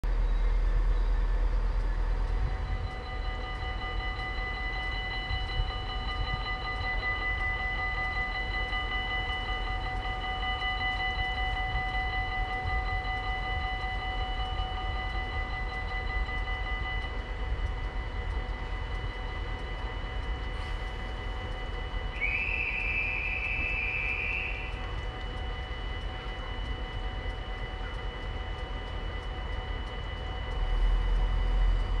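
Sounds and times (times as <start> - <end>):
level crossing warning bells: 0.1 - 32.0.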